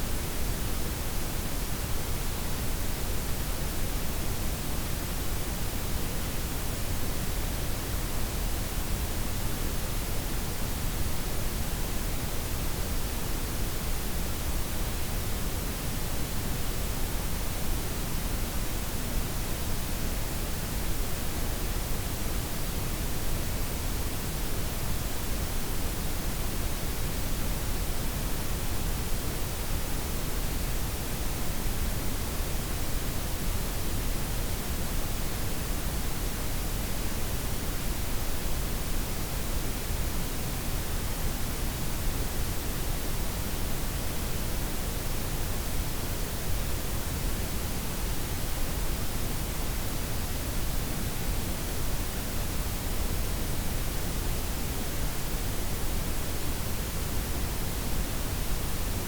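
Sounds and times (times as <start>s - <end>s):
steady broadband noise hiss: 0.0s - 59.0s.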